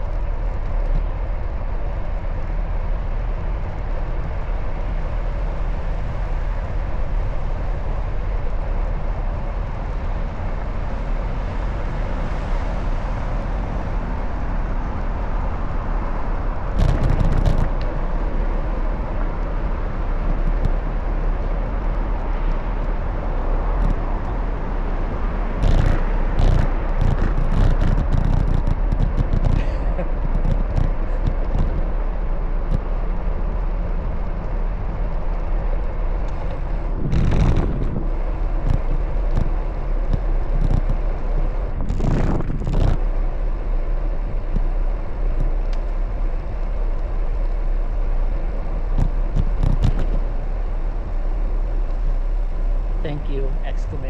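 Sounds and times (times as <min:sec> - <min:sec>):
traffic rumble: 0:00.0 - 0:54.0
vehicles passing: 0:00.0 - 0:54.0.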